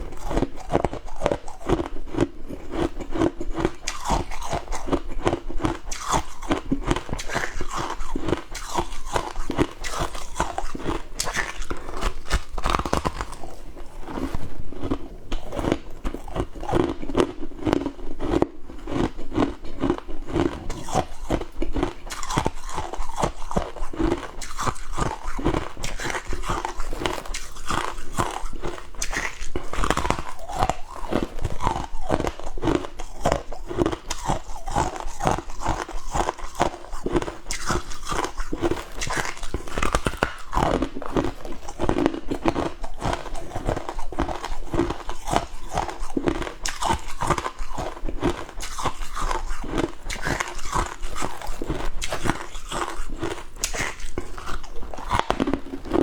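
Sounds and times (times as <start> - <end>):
crunching and chewing frost: 0.0 - 56.0.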